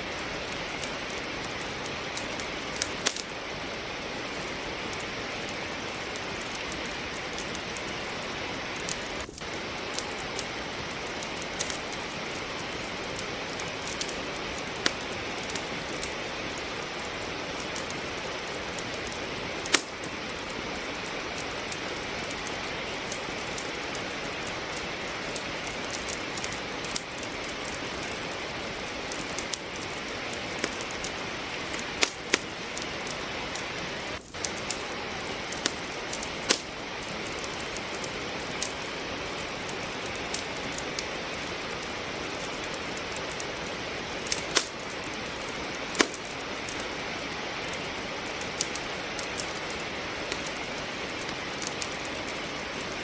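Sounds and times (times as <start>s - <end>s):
rain falling: 0.0s - 53.0s
wood fire crackling: 0.0s - 53.0s.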